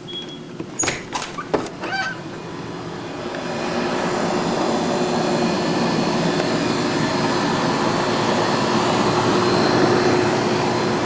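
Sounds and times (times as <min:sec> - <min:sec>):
engine drone: 0:01.6 - 0:11.0.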